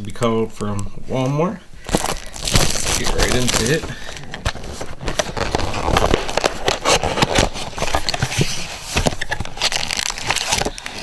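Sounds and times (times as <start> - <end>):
packaging being torn open: 1.9 - 11.0.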